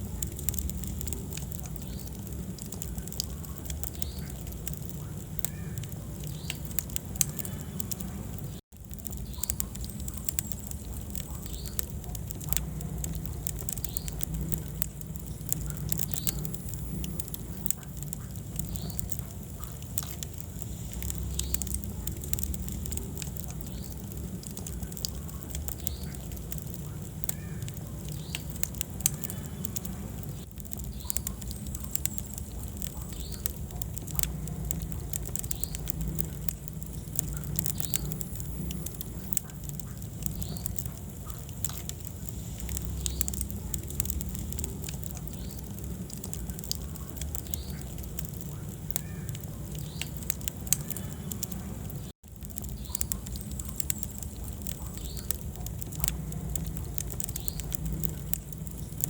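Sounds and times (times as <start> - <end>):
low rumble of burning logs: 0.0 - 59.0
wood fire crackling and popping: 0.0 - 59.0.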